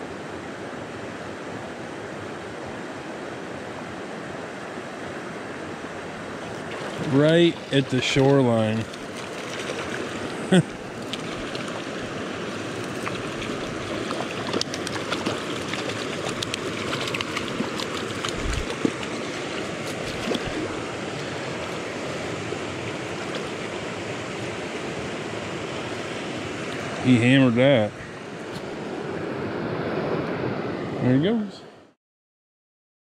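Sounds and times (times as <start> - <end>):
small stream running: 0.0 - 31.5.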